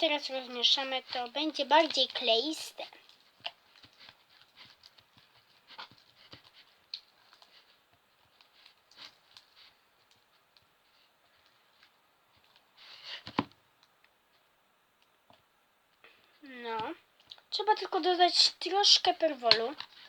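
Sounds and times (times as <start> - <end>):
slime being stirred scraping: 0.0 - 13.4, 16.6 - 20.0.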